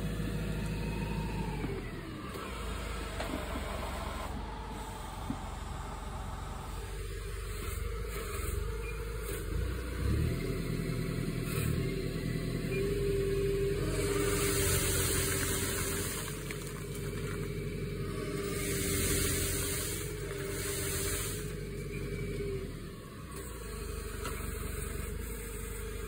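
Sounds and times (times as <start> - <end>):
tree shaker engine revving: 0.0 - 26.0.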